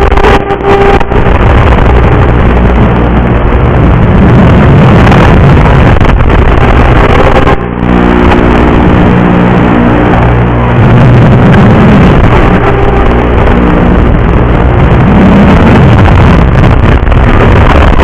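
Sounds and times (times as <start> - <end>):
harsh hiss and buzz: 0.0 - 18.0
steady pitched hum: 0.0 - 18.0.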